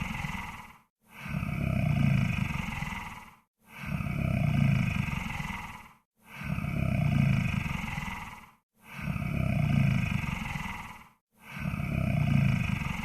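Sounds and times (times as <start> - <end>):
deep rasping snoring: 0.0 - 13.0.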